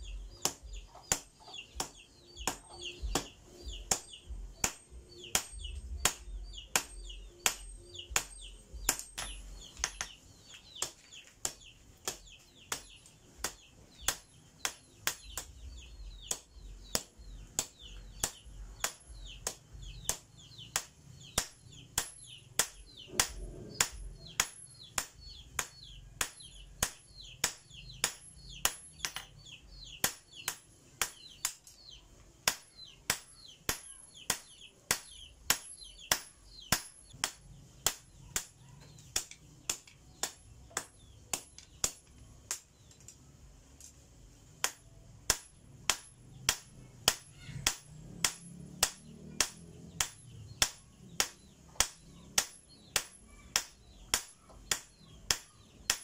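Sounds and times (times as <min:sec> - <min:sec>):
hammer striking hot steel on anvil: 0:00.3 - 0:10.2, 0:10.8 - 0:42.7, 0:44.6 - 0:56.0.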